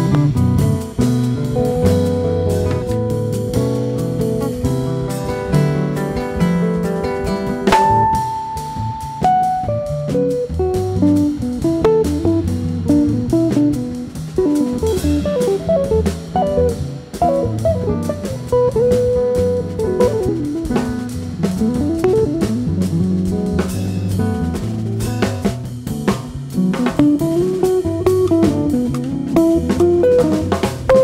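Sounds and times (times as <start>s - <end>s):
electric guitar lead lines: 0.0s - 23.8s, 26.8s - 31.0s
bass: 0.0s - 31.0s
drums: 0.0s - 31.0s.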